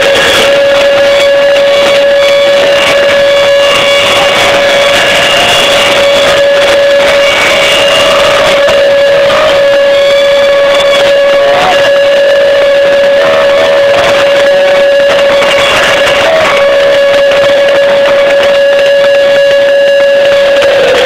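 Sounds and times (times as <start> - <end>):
stadium crowd din: 0.0 - 21.0
steady held tone: 0.0 - 21.0.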